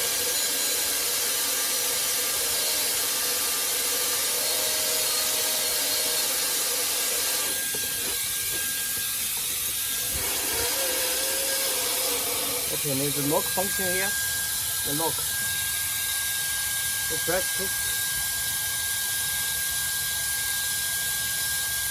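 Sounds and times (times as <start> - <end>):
hair dryer blowing air: 0.0 - 18.9.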